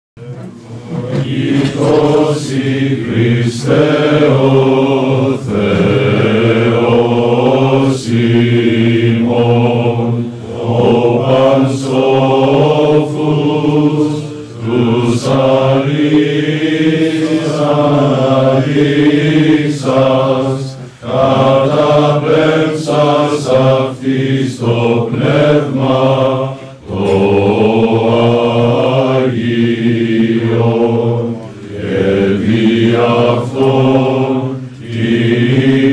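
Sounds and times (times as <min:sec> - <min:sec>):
men singing church chant: 0:00.6 - 0:35.9.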